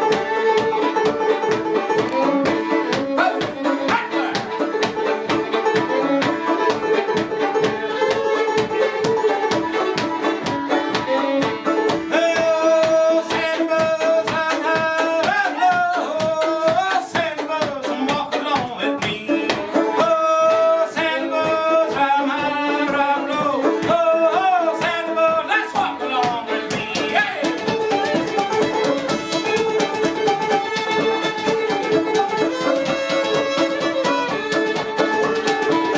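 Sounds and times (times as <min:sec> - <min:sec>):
plucked strings rhythm: 0:00.0 - 0:35.9.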